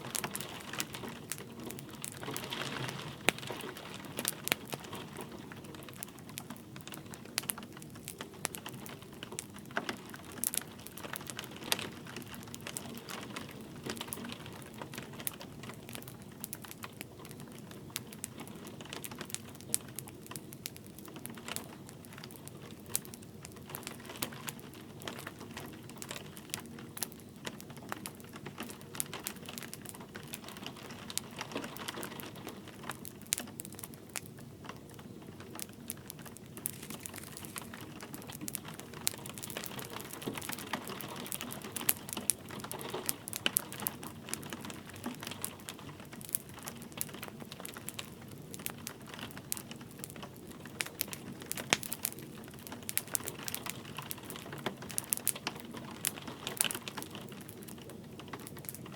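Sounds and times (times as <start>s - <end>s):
fire popping and snapping: 0.0s - 58.9s
light rain hiss: 0.0s - 58.9s
wood fire crackling: 0.0s - 58.9s.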